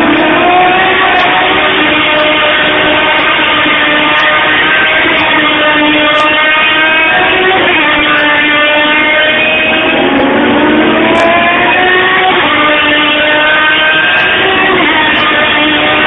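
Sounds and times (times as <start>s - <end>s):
racing engines revving: 0.0s - 16.0s.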